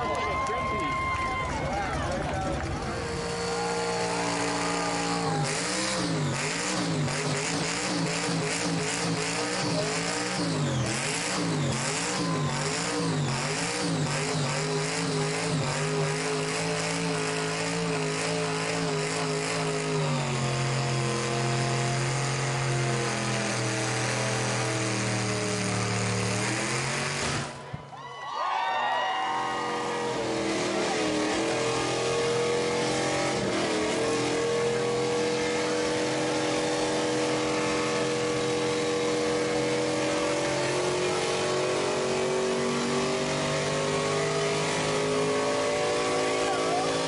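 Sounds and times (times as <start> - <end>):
car engine revving: 1.4 - 27.7, 29.6 - 47.0.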